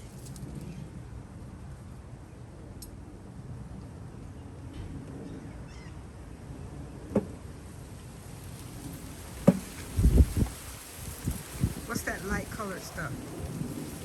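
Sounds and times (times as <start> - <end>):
low outdoor rumble on microphone: 0.0 - 14.0.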